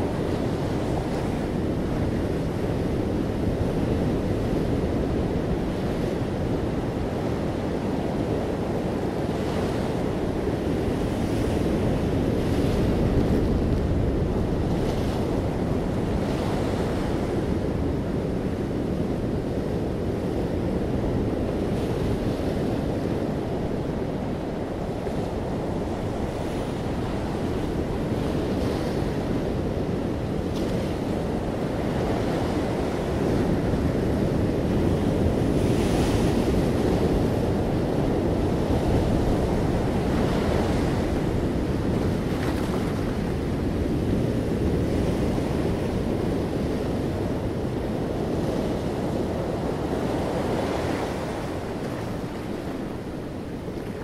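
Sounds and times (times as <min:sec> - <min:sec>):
ocean surf on rocks and sand: 0:00.0 - 0:54.0.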